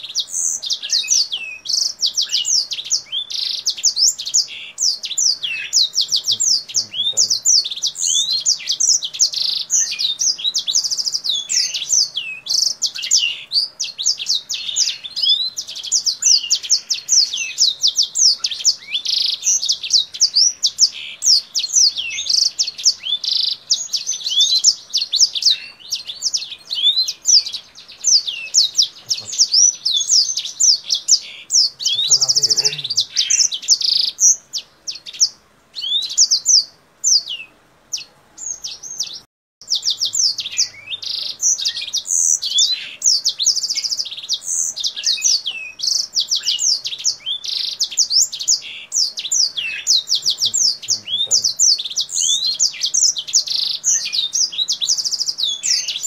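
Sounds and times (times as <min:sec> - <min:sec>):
finch singing: 0:00.0 - 0:56.0.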